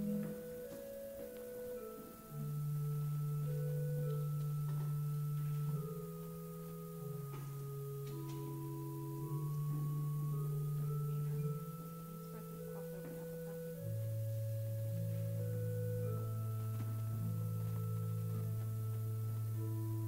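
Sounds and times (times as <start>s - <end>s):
church organ playing soft chords: 0.0s - 20.0s.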